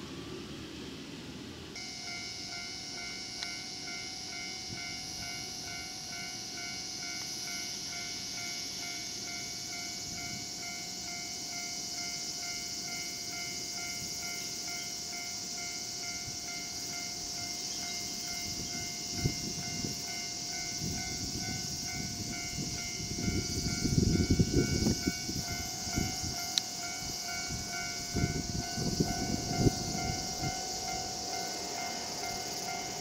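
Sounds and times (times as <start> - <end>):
steady high hiss: 0.0 - 33.0
train wheels rumbling on track: 0.0 - 33.0.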